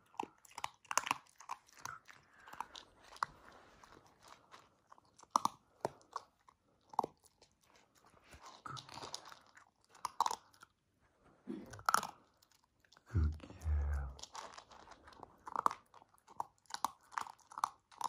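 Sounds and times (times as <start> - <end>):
puppy crunching dry kibble: 0.0 - 18.0.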